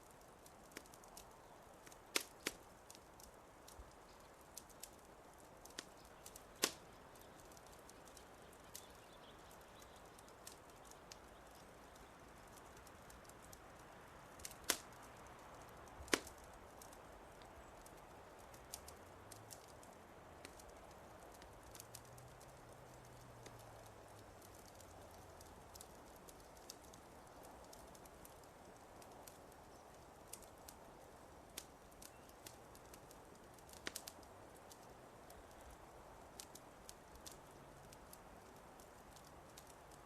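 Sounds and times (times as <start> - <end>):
faint steady hiss: 0.0 - 40.0
wood fire crackling: 0.0 - 40.0.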